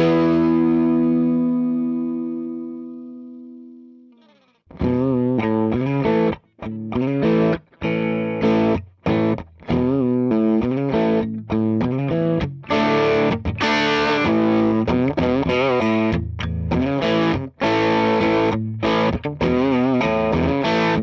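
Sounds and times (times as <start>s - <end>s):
overdriven electric guitar: 0.0s - 21.0s.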